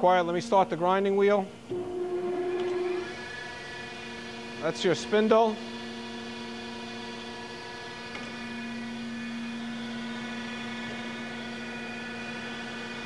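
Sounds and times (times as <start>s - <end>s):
grinder motor humming: 1.7s - 13.0s.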